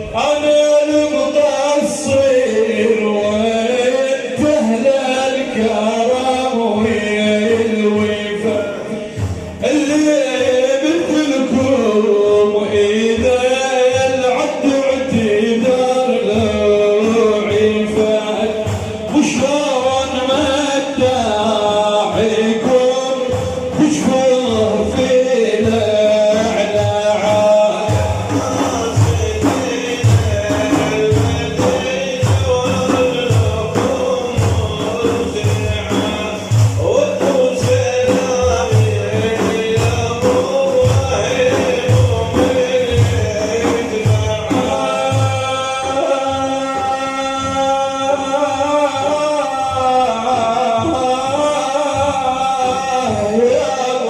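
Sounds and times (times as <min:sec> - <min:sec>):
frame drums beating: 0:00.0 - 0:54.0
men chanting a praise song: 0:00.0 - 0:54.0.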